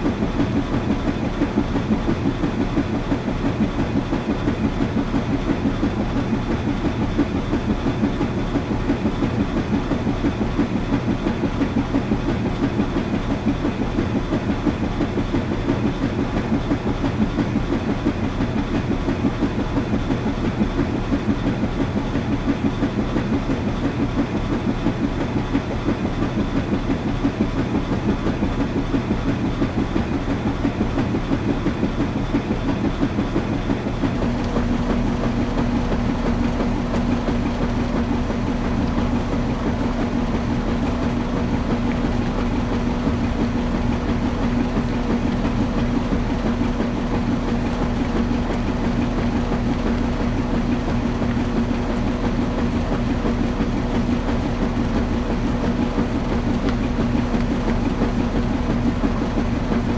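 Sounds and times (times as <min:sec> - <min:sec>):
washing machine churning: 0:00.0 - 0:59.9.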